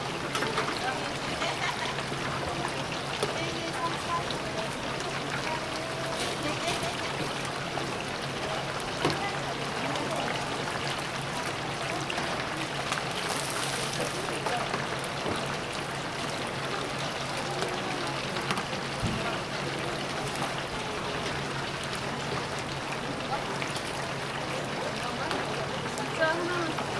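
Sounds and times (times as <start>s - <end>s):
oil bubbling and sizzling: 0.0s - 26.9s.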